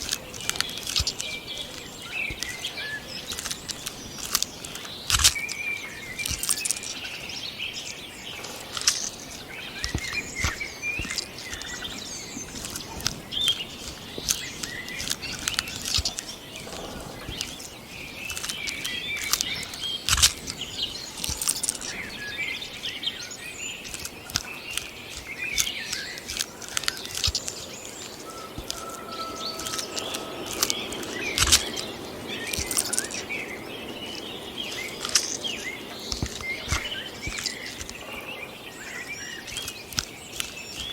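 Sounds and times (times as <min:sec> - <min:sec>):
birds chirping: 0:00.0 - 0:40.9
rustling: 0:00.0 - 0:40.9
sharp clicks: 0:00.0 - 0:40.9.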